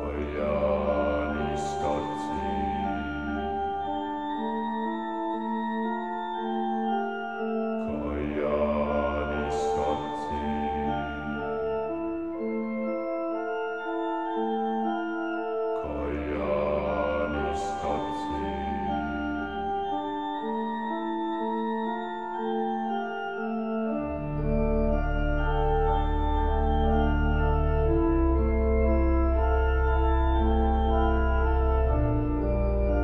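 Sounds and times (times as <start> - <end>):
keyboard chords: 0.0 - 33.0.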